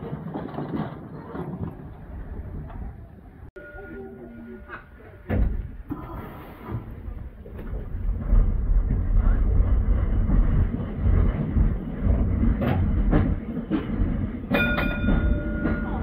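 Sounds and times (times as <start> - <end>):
tram wheels rumbling: 0.0 - 16.0.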